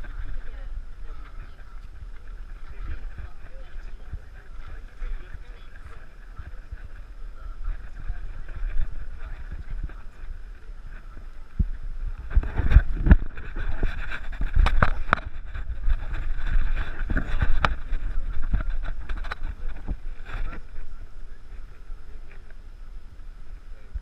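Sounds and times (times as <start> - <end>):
steady high hiss: 0.0 - 24.0
wind rumble on microphone: 0.0 - 24.0.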